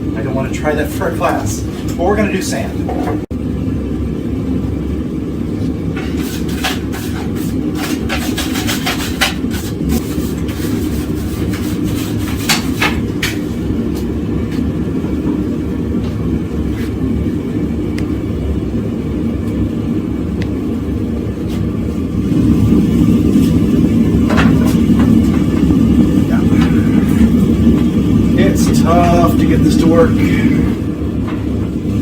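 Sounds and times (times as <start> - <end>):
forge burner roaring: 0.0 - 32.0.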